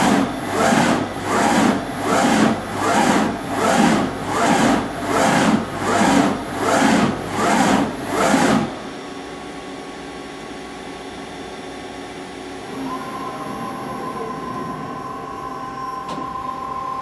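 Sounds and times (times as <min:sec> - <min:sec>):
machine running hum: 0:00.0 - 0:17.0.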